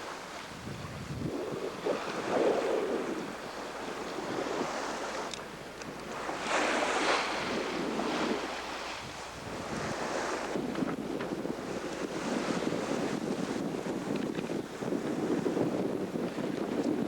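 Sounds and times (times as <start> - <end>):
sea breaking along a hull: 0.0 - 17.0
wind buffeting microphone: 0.0 - 17.0.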